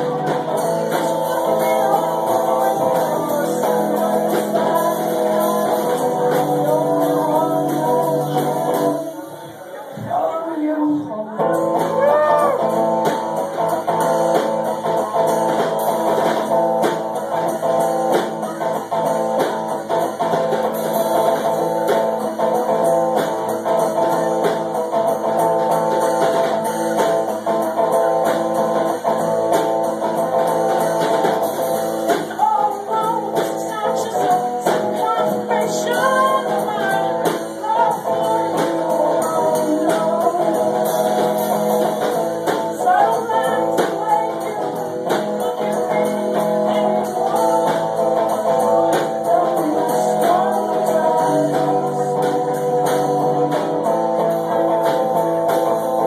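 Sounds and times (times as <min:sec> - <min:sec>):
drum kit: 0:00.0 - 0:56.0
electric guitar: 0:00.0 - 0:56.0
person singing: 0:00.0 - 0:56.0.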